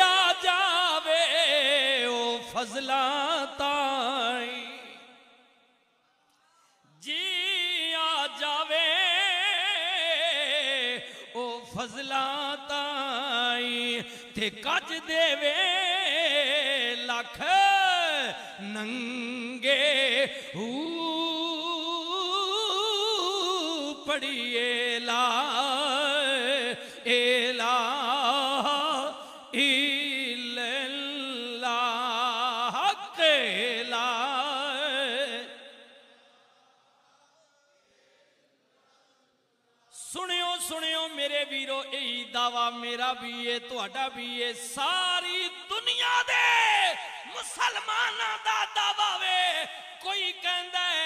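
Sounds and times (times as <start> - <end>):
man singing into a microphone: 0.0 - 5.4, 6.5 - 36.3, 39.9 - 51.0.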